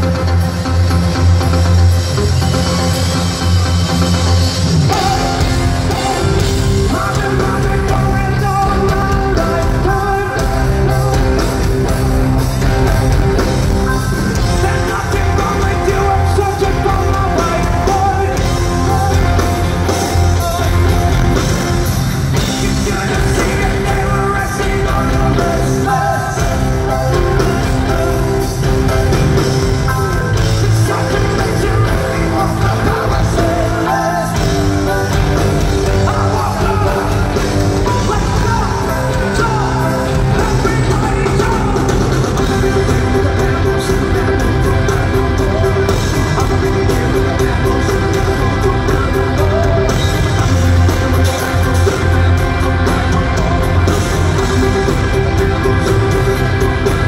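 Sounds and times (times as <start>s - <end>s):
drums: 0.0s - 57.0s
rock band playing live: 0.0s - 57.0s
person singing: 2.6s - 57.0s.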